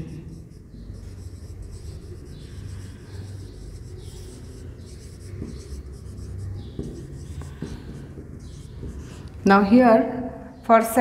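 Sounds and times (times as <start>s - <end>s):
marker scratching on whiteboard: 0.0s - 9.7s.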